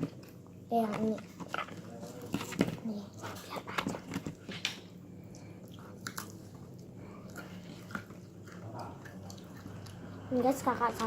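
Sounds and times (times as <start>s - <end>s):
person chewing with crunches: 1.3s - 11.0s.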